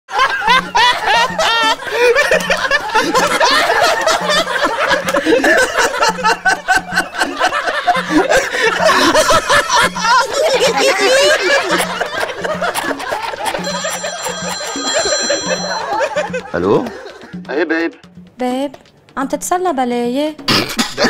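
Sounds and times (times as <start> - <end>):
men laughing: 0.1 - 17.5.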